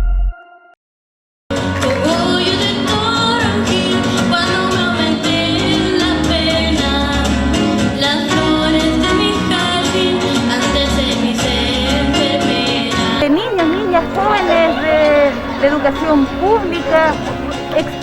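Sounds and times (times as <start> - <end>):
guitar: 1.5 - 18.0.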